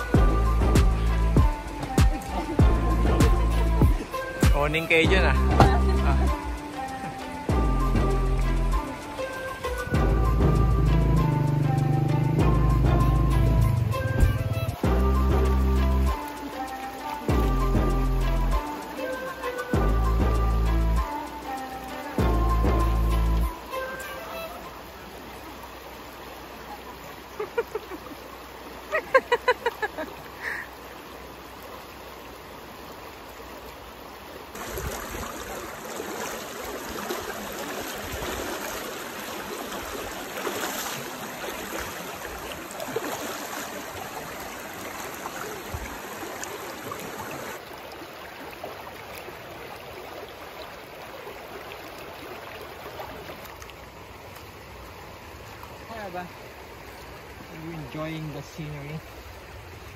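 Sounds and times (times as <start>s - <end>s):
river water running over stones: 0.0s - 59.9s.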